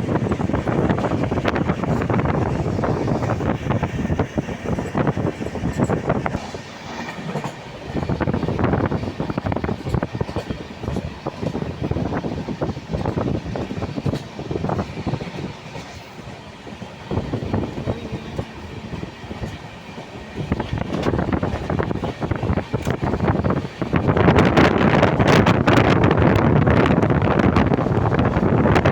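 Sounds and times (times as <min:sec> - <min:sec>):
train wheels clattering on track: 0:00.0 - 0:28.9.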